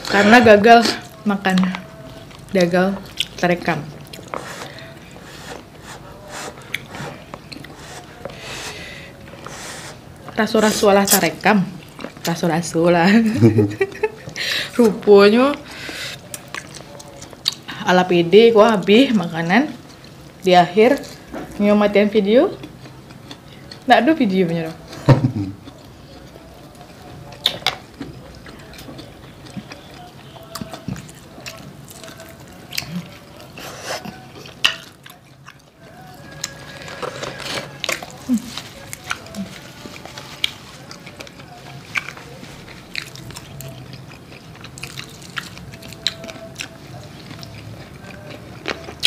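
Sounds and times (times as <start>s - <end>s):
chewing: 0.0s - 12.5s, 13.8s - 17.8s, 19.7s - 21.6s, 22.5s - 49.0s.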